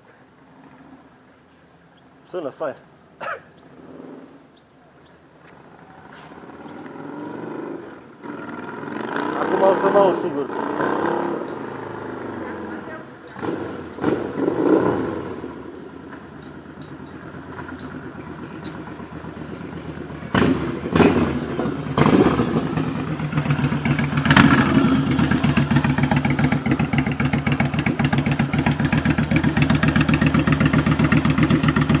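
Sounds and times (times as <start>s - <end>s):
motorcycle engine idling and surging: 5.4s - 32.0s.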